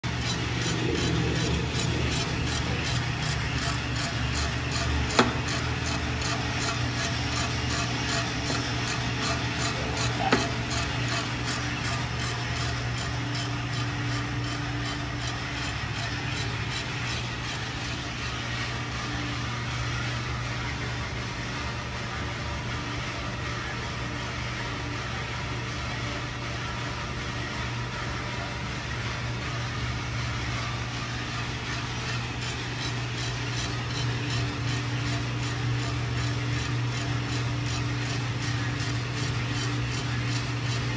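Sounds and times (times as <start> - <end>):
coffee roaster hum: 0.0 - 40.9.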